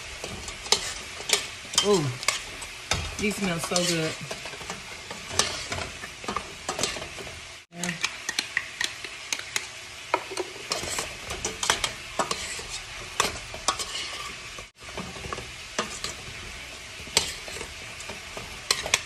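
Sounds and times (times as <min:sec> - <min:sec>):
sauce sizzling in a pot: 0:00.0 - 0:19.0.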